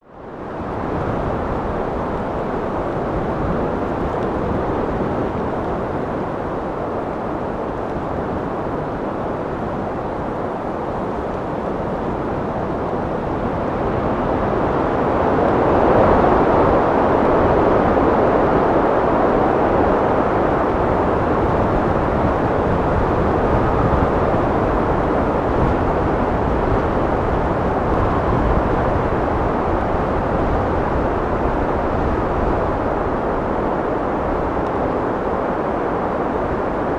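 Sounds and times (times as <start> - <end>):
wind blowing: 0.0 - 36.9.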